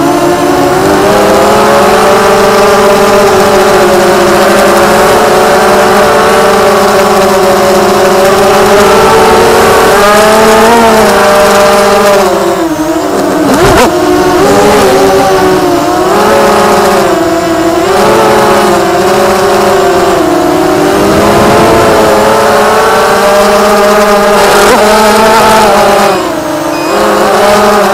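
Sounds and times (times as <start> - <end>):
drone motors whining: 0.0 - 27.9.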